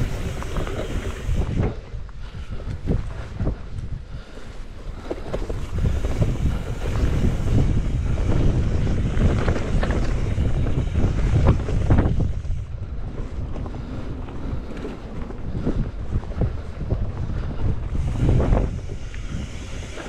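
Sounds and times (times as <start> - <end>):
bike knocks and rattles: 0.0 - 4.0, 4.9 - 20.0
wind buffeting microphone: 0.0 - 20.0.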